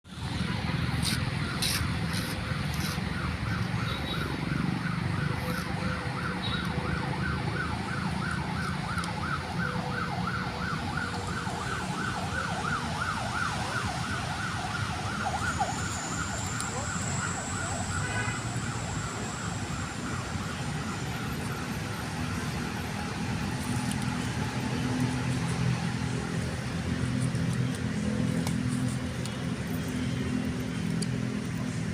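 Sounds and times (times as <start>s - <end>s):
traffic rumble: 0.1s - 31.9s
yelping siren: 2.4s - 28.2s.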